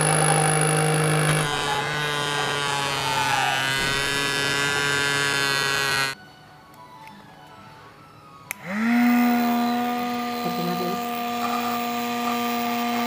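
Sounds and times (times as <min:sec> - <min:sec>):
small electric motor humming: 0:00.0 - 0:06.2, 0:08.6 - 0:13.0.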